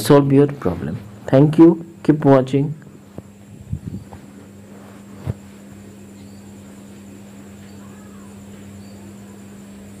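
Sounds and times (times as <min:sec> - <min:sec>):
faint high whine: 0:00.0 - 0:10.0
steady low hum: 0:00.0 - 0:10.0.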